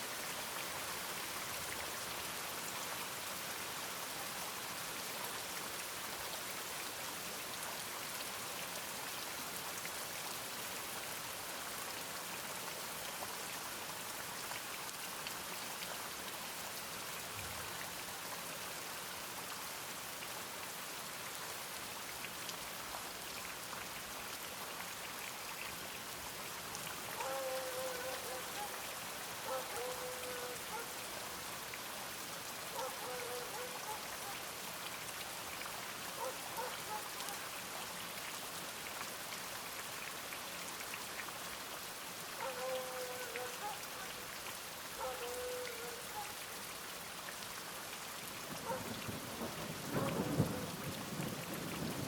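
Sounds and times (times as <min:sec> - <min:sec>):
steady rain patter: 0:00.0 - 0:52.0.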